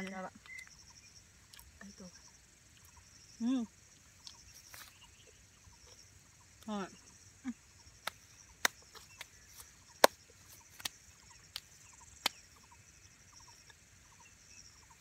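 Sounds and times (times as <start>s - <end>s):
faint insect chirps: 0.0s - 15.0s
high insect buzz: 0.0s - 15.0s.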